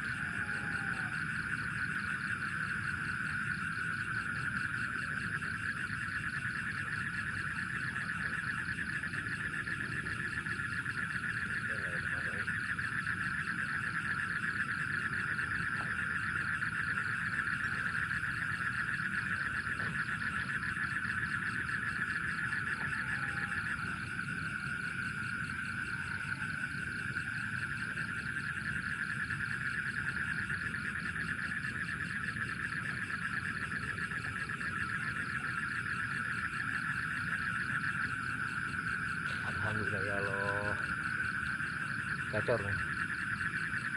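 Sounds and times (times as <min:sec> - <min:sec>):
insects and frogs trilling: 0:00.0 - 0:43.9.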